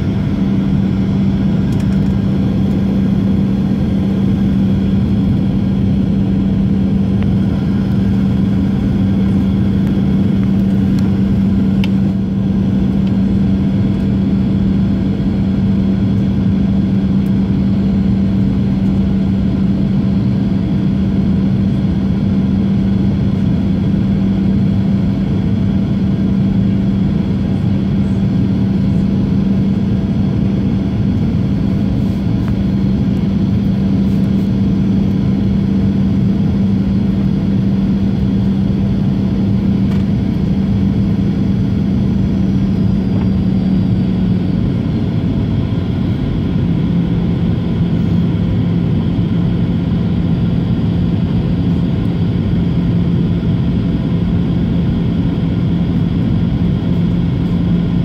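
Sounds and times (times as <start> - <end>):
constant low hum: 0.0 - 58.0
jet engines droning: 0.0 - 58.0.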